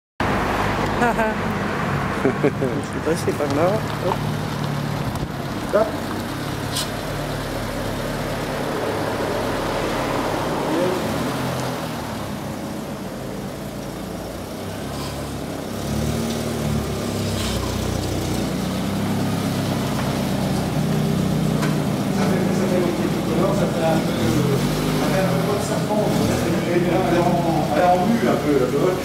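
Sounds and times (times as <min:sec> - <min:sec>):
car engine idling unevenly: 0:00.3 - 0:29.0.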